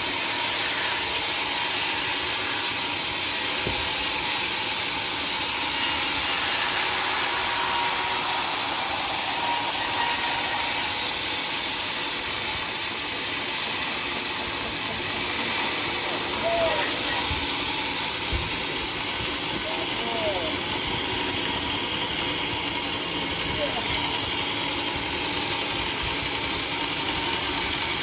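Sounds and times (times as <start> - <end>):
sawmill saw cutting log: 0.0 - 28.0.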